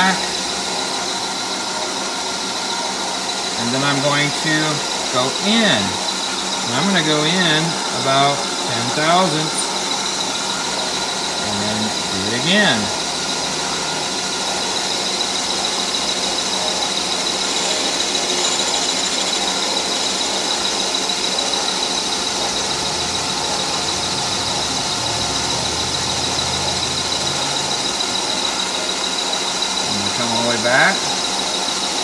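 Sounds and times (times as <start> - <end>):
metal lathe whining: 0.0 - 32.0.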